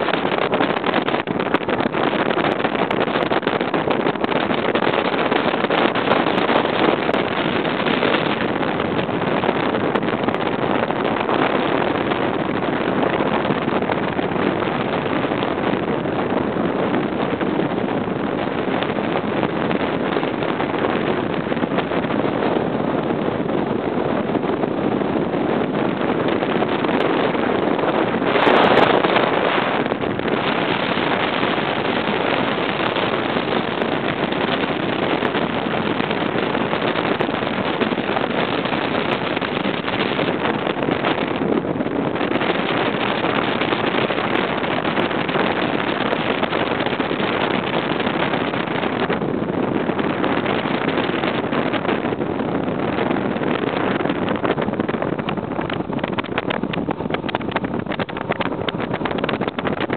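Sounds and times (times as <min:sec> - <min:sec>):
outboard motor running: 0:00.0 - 0:59.9
wind over microphone: 0:00.0 - 0:59.9.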